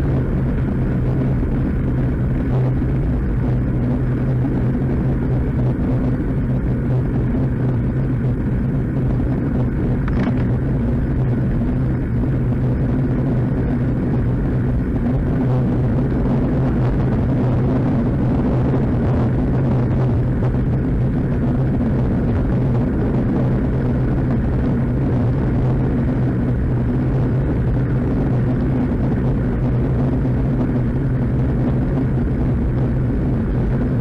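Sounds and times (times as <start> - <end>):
bicycle road noise: 0.0 - 34.0
constant low hum: 0.0 - 34.0
wind rumble: 0.0 - 34.0.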